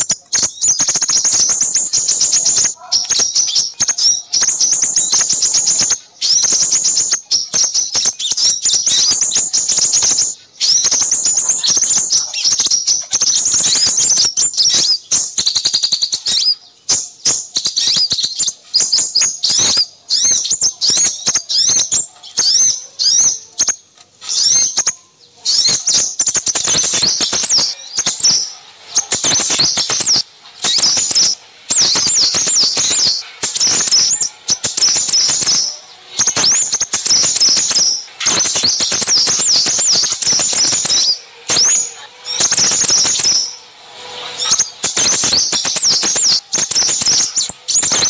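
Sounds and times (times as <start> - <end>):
songbirds chirping and twittering: 0.0 - 48.0.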